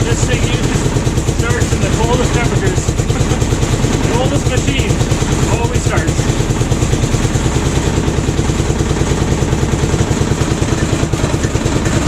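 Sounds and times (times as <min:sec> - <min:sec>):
single-cylinder engine idling: 0:00.0 - 0:12.0.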